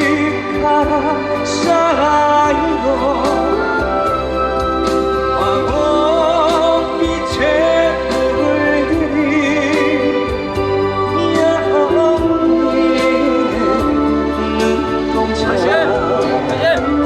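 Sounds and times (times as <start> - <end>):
lead melody with vibrato: 0.0 - 17.0.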